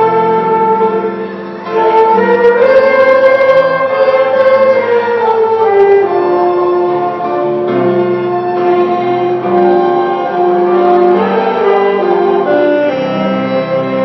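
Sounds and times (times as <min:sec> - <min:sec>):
keyboard accompaniment: 0:00.0 - 0:14.0.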